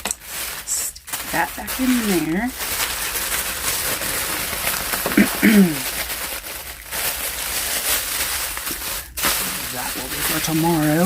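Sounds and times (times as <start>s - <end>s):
sandwich wrapping crinkling: 0.0s - 11.0s.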